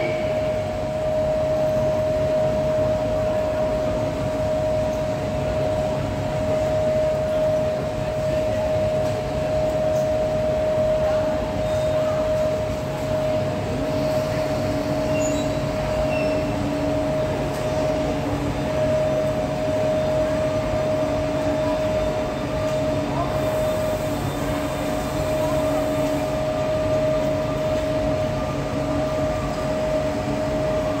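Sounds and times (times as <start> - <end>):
electric locomotive hum: 0.0 - 31.0
rolling train rumble: 0.0 - 31.0.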